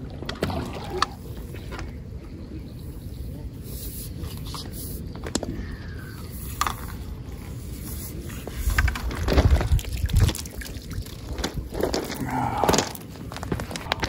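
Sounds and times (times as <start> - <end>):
water splashing and sloshing: 0.0 - 2.7, 5.0 - 14.0.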